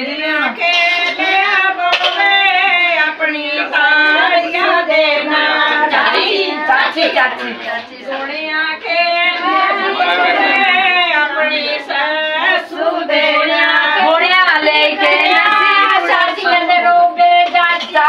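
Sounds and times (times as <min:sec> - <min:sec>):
women singing unaccompanied: 0:00.0 - 0:18.0.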